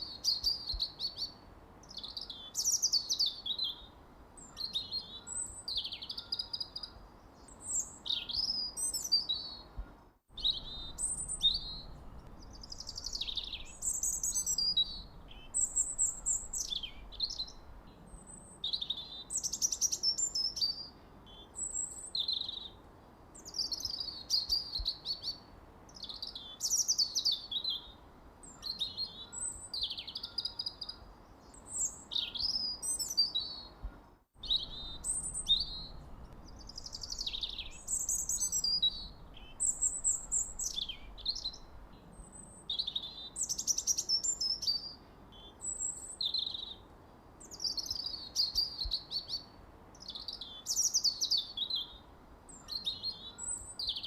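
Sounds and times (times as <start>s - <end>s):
faint steady hiss: 0.0s - 54.0s
songbirds chirping: 0.0s - 54.0s.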